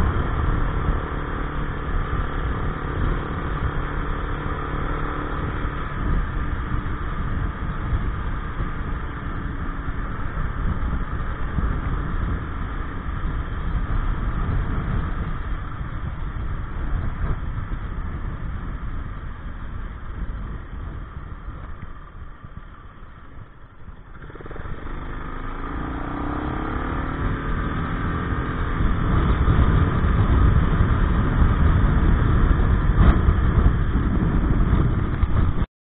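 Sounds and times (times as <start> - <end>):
scooter engine running: 0.0 - 35.6
wind rumble on microphone: 0.0 - 35.7.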